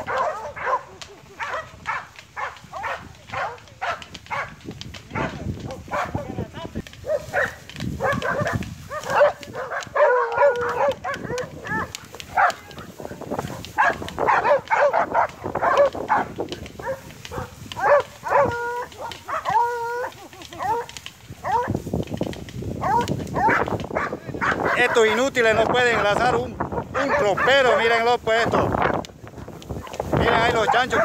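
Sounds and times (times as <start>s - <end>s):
dogs howling: 0.0s - 6.2s, 7.0s - 21.8s, 22.8s - 25.1s, 26.7s - 27.8s, 29.8s - 31.0s
dogs barking and yelping: 0.0s - 6.3s, 6.9s - 21.8s, 22.8s - 25.3s, 25.9s - 27.8s, 29.7s - 31.0s.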